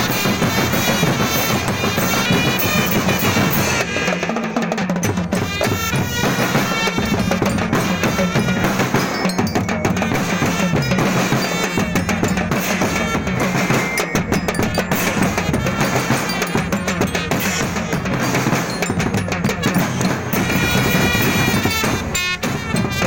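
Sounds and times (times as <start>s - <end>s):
percussion-driven music: 0.0s - 23.0s.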